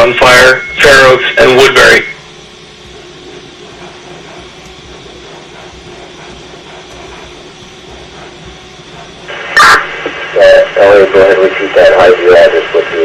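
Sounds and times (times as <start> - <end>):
radio channel hiss and rumble: 0.0 - 13.0.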